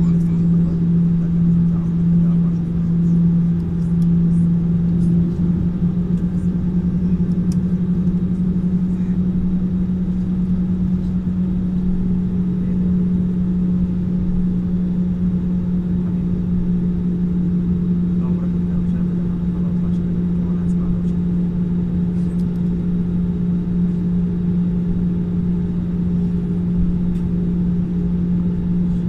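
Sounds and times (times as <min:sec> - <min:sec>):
jet engines droning: 0:00.0 - 0:29.0.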